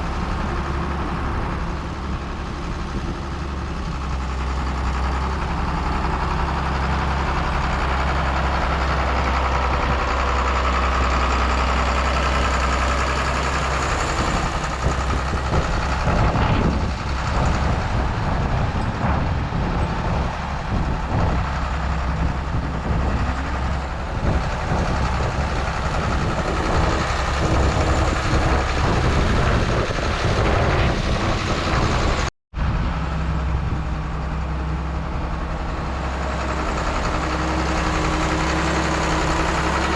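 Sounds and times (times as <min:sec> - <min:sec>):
diesel engine of farm machinery: 0:00.0 - 0:39.9.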